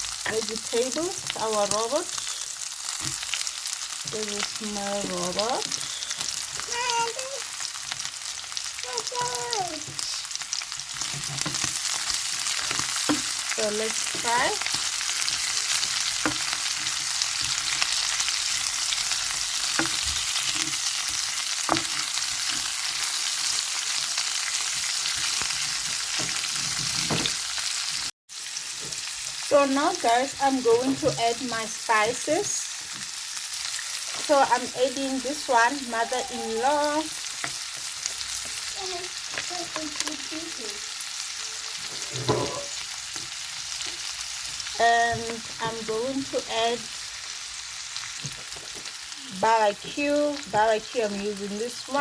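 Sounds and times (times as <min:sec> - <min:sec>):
food sizzling in a frying pan: 0:00.0 - 0:52.0.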